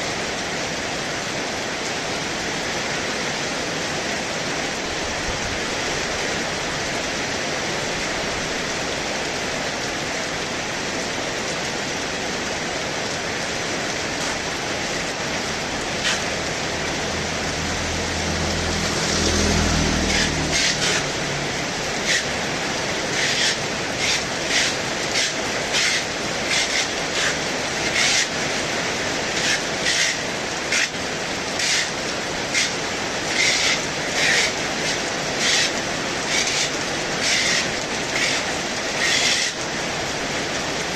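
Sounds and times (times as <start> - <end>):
heavy rain with wind: 0.0 - 40.9.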